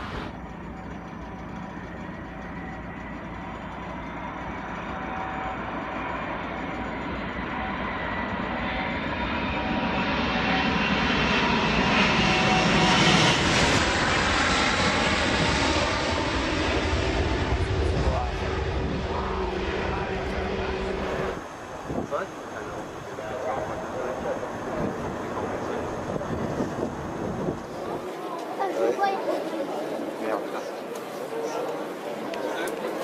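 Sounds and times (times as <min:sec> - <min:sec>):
airplane engines on approach: 0:00.0 - 0:33.0.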